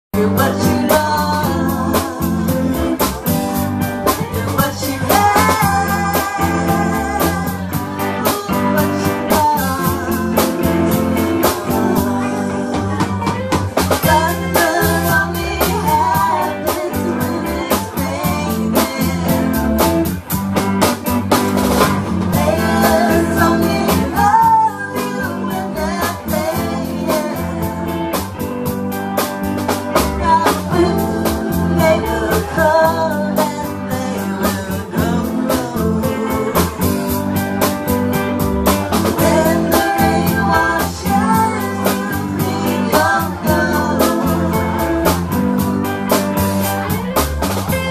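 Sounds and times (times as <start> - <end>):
woman singing: 0.2 - 20.2, 22.3 - 28.5, 30.0 - 37.4, 39.0 - 46.2
drum kit beat: 0.2 - 47.9
electric guitar: 0.2 - 47.9.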